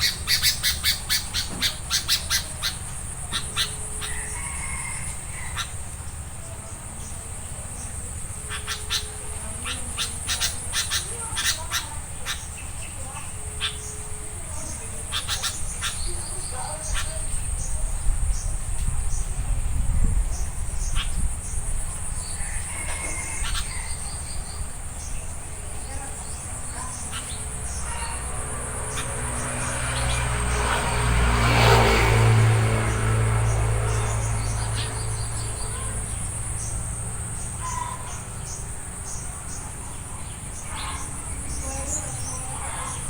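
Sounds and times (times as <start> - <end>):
bird calls: 0.0 - 43.0
insects trilling: 0.0 - 43.0
low engine hum: 0.0 - 43.0.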